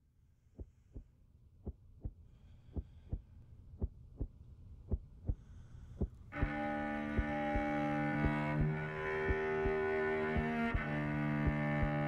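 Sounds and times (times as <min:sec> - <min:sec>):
low hum: 0:00.0 - 0:12.0
heartbeat double thumps: 0:00.6 - 0:12.0.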